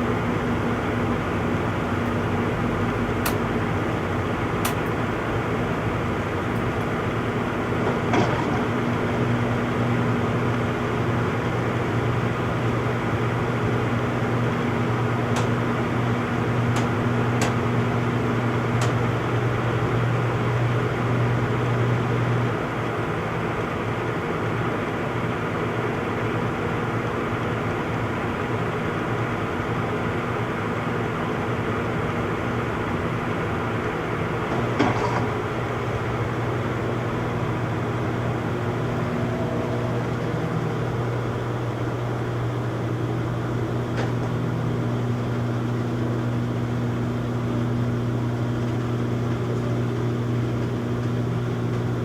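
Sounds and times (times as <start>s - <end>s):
washing machine spinning: 0.0s - 52.0s.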